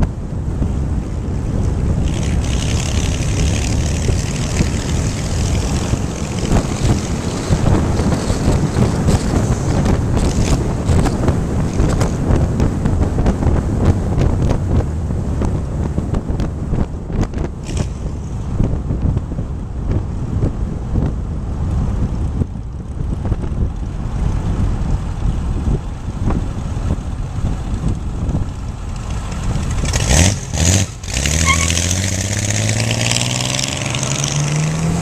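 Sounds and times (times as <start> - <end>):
road and engine rumble: 0.0 - 35.0
wind buffeting microphone: 0.0 - 35.0.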